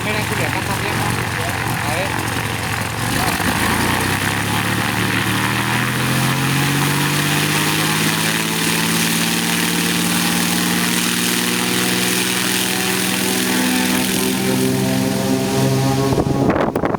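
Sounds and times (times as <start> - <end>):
propeller plane engine running: 0.0 - 16.9.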